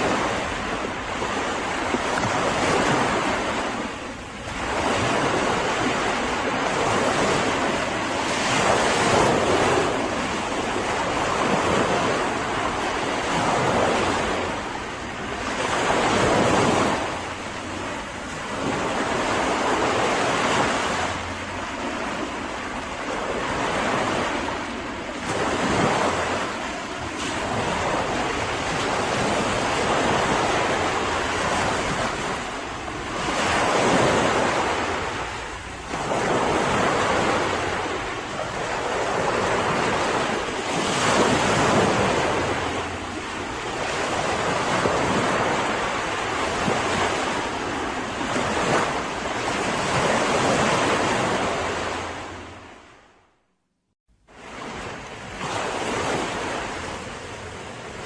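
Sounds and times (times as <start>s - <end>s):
sea waves breaking on beach: 0.0s - 53.0s, 54.3s - 58.0s.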